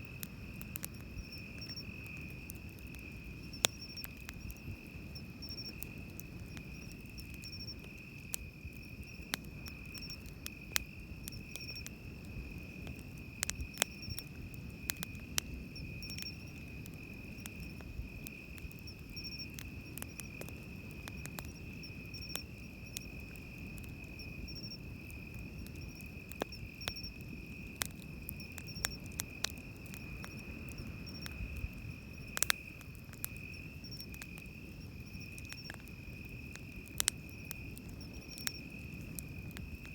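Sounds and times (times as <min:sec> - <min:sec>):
campfire crackling pops: 0:00.0 - 0:39.9.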